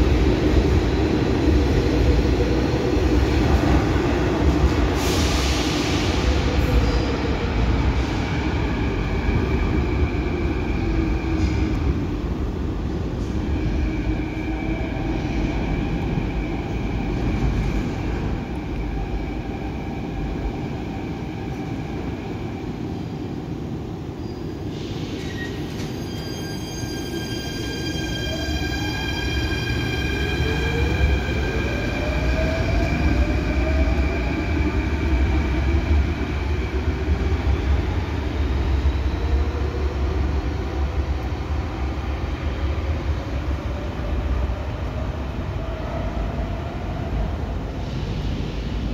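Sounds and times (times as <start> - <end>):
train and wheels rumbling on rail: 0.0 - 48.9.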